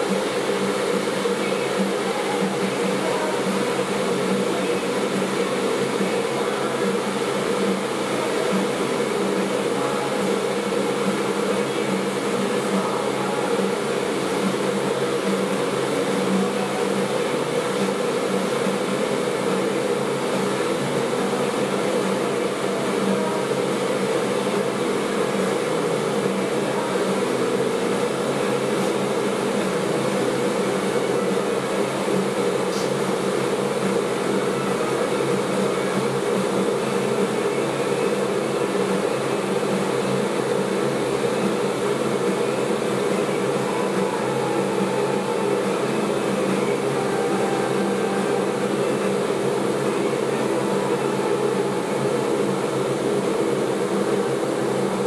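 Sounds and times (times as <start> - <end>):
steady mechanical drone: 0.0 - 55.0.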